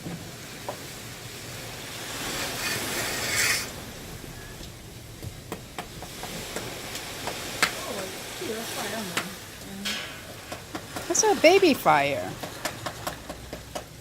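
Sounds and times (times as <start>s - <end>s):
small fire crackling: 0.0s - 14.0s.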